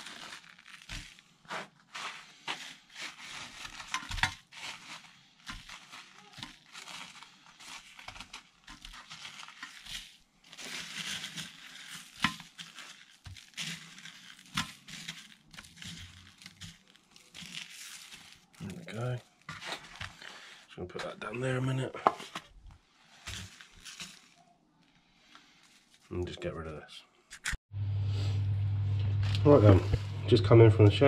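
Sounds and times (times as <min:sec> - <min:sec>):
newspaper crinkling and rustling: 0:00.0 - 0:24.6, 0:25.3 - 0:26.2.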